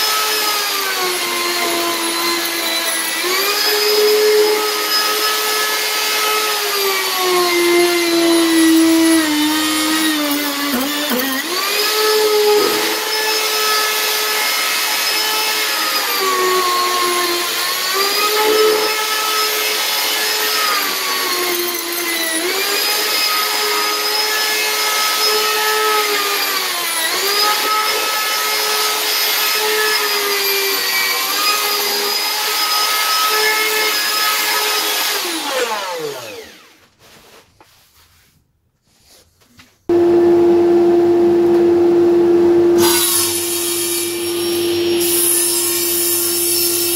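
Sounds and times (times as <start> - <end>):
router whining cutting wood: 0.0 - 36.9, 39.9 - 46.9.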